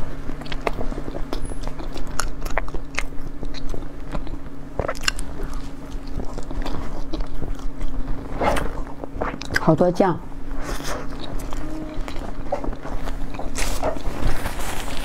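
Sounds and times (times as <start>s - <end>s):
steady low hum: 0.0s - 15.0s
chewing with crackly clicks: 0.2s - 9.8s, 10.8s - 14.3s.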